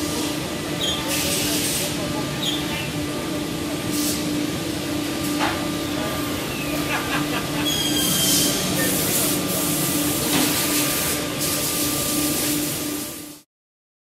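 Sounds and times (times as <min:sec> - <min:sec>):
cnc router milling: 0:00.0 - 0:13.2.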